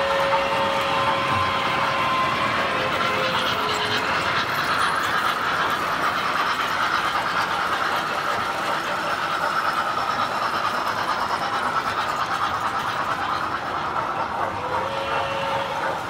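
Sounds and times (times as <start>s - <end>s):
toy train rolling on track: 0.0s - 16.0s.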